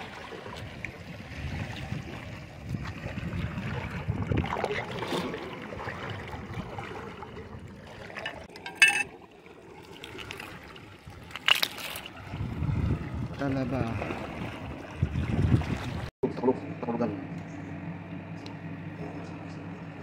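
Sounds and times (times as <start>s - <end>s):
seawater washing among rocks: 0.0s - 16.1s.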